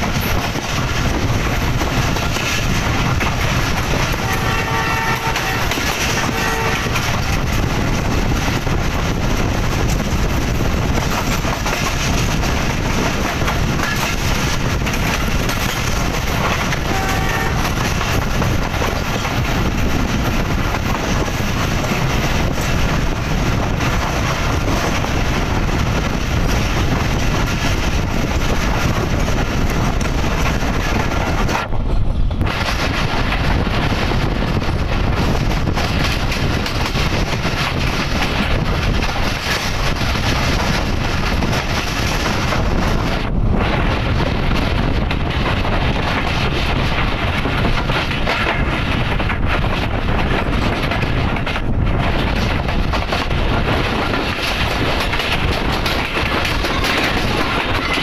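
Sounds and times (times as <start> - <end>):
rail-joint clicks: 0.0 - 58.0
train wheels rushing on rail: 0.0 - 58.0
wind on microphone: 0.0 - 58.0.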